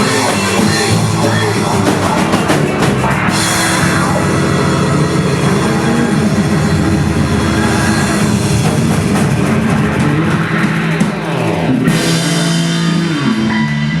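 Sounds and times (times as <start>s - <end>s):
cymbals: 0.0s - 14.0s
drum kit: 0.0s - 14.0s
live rock band playing: 0.0s - 14.0s.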